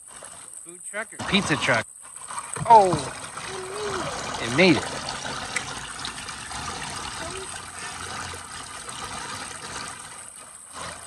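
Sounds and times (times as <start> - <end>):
water trickling into basin: 0.0 - 11.0.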